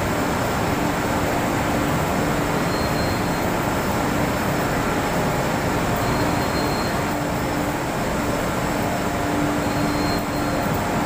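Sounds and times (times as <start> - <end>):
recycling machinery blowers humming: 0.0 - 11.0.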